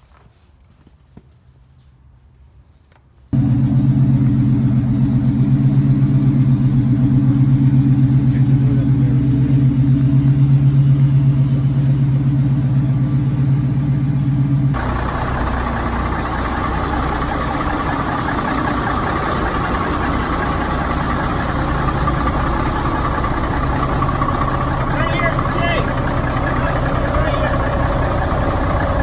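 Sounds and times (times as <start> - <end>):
vehicle engine idling: 3.3 - 29.0
noisier engine idling: 3.4 - 29.0.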